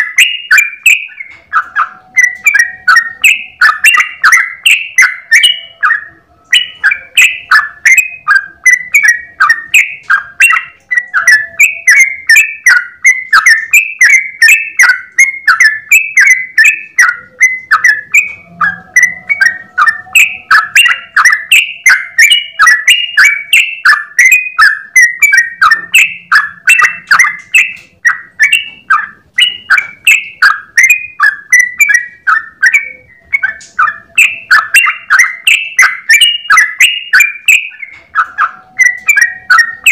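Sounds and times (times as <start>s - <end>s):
bird singing bubbling chirps: 0.0s - 39.9s.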